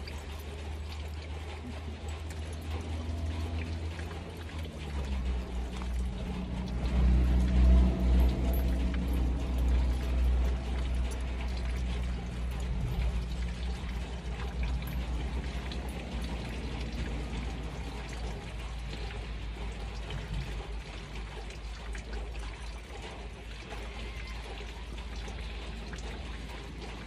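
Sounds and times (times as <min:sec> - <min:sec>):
steady low rumble: 0:00.0 - 0:23.7
light rain pattering: 0:00.0 - 0:27.0.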